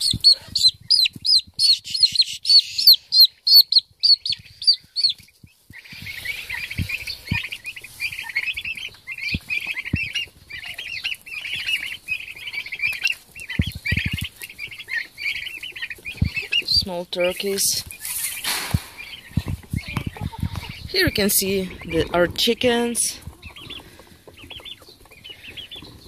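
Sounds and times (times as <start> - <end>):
group of turkey poults peeping: 0.0 - 26.0
turkey poult peeping loudly: 0.0 - 26.0.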